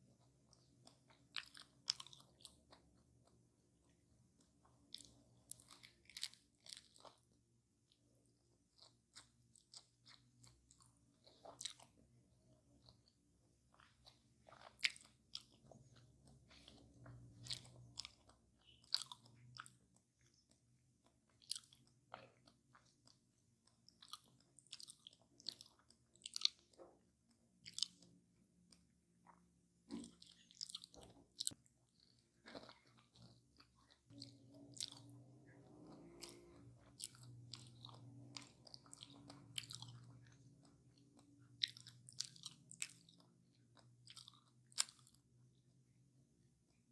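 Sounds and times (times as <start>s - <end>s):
chewing crispy crust: 0.0s - 45.9s.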